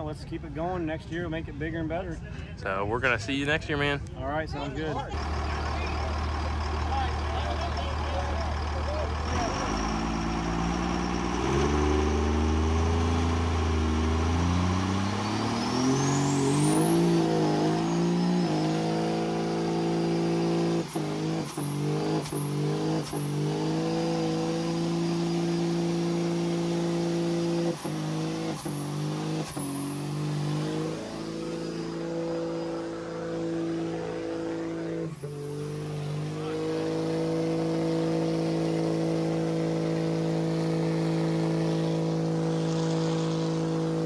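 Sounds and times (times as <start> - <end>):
diesel engine revving: 4.9 - 44.0.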